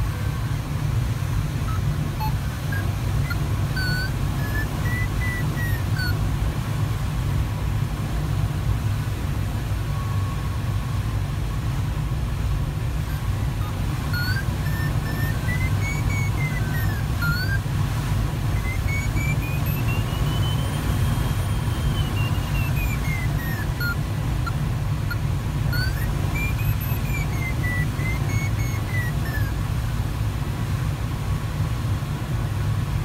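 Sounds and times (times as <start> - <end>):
variometer beeping tone: 0.0 - 6.8, 8.8 - 11.2, 12.9 - 30.1
airflow rumble around cockpit: 0.0 - 33.0.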